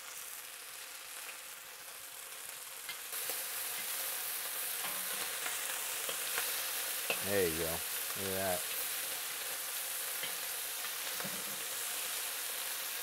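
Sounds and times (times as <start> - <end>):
meat sizzling in a wok: 0.0 - 13.0.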